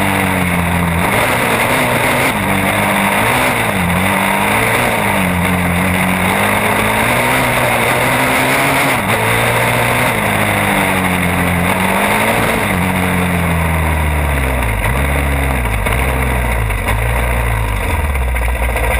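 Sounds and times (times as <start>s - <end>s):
atv engine revving: 0.0s - 18.9s.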